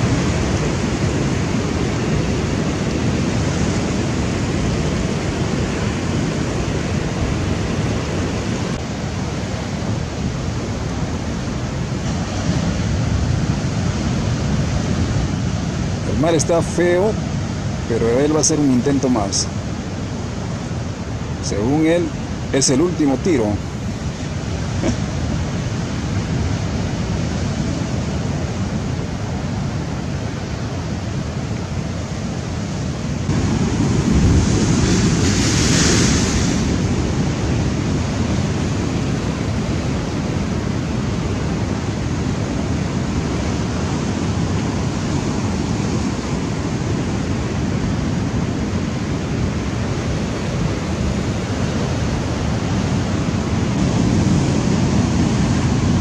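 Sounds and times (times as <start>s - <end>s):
surf breaking on rocky shore: 0.0s - 56.0s.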